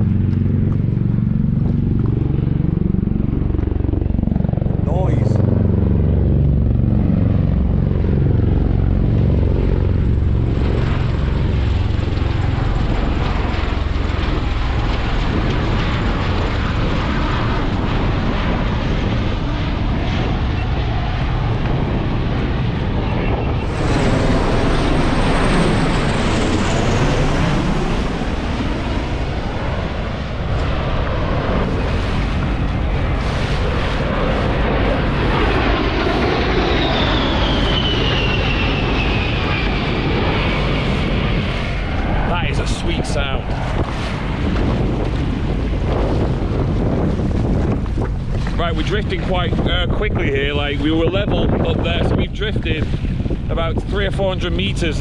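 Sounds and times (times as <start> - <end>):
jets whining overhead: 0.0 - 55.0
tiltrotor aircraft rumbling overhead: 0.0 - 55.0.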